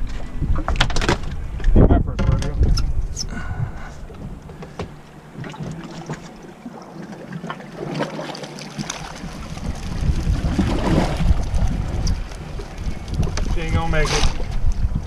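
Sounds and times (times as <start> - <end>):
wind rumble on microphone: 0.0 - 6.4, 8.8 - 15.0
water washing against hull: 0.0 - 15.0.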